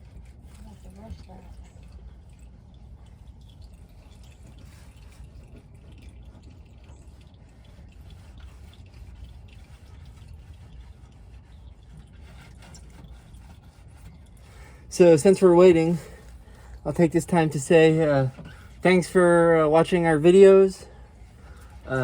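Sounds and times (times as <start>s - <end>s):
oil trickling and dripping into pan: 0.0s - 22.0s.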